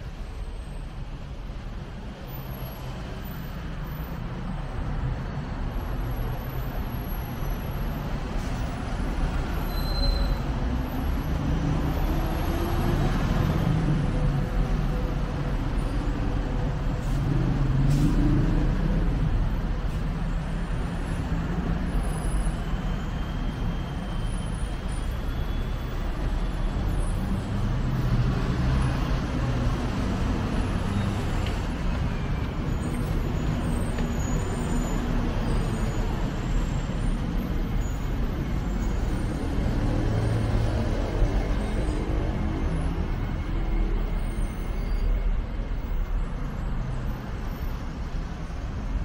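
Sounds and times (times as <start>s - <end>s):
road traffic noise: 0.0s - 49.0s
vehicles passing: 0.0s - 49.0s.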